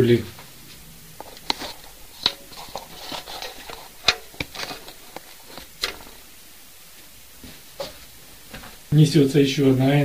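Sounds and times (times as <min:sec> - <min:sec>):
faint room noise: 0:00.0 - 0:10.0.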